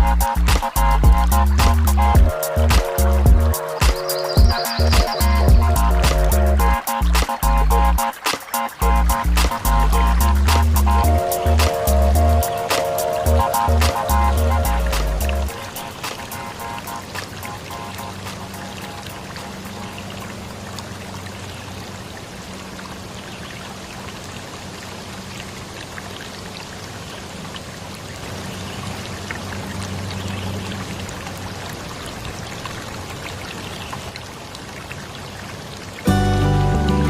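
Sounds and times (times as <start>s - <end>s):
stream water rushing: 0.0s - 37.0s.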